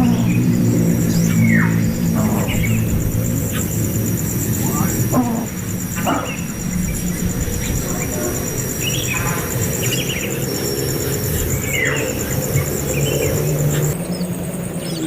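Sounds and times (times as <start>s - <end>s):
low background rumble: 0.0s - 14.6s
bird chirps and calls: 0.0s - 15.0s
pulsing high insect buzz: 0.0s - 15.0s.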